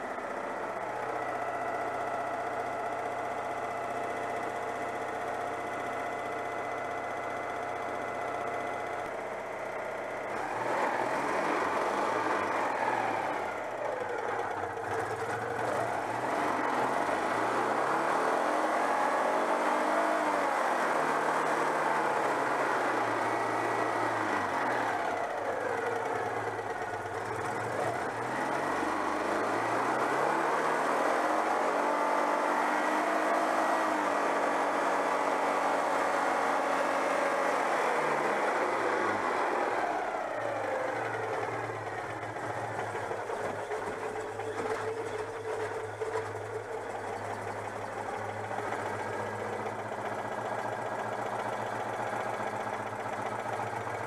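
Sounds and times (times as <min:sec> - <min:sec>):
car engine revving: 0:10.1 - 0:54.0.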